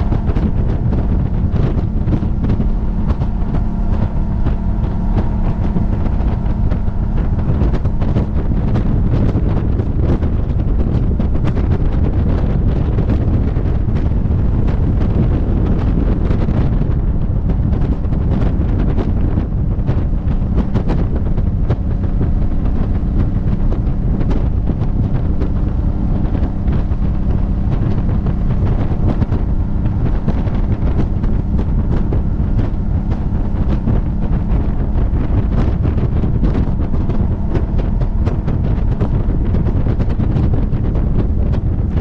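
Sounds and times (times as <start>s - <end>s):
motorcycle and road noise: 0.0s - 42.0s
wind buffeting microphone: 0.0s - 42.0s.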